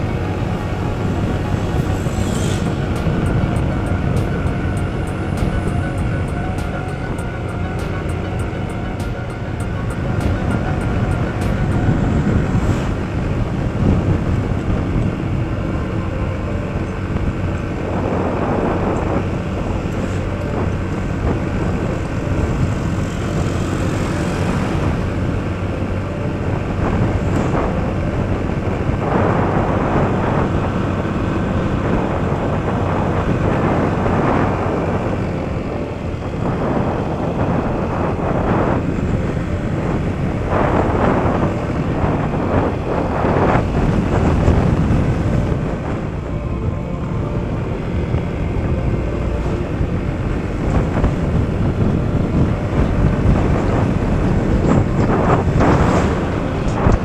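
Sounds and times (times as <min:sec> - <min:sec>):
motor scooter running: 0:00.0 - 0:57.0
wind noise on microphone: 0:00.0 - 0:57.0.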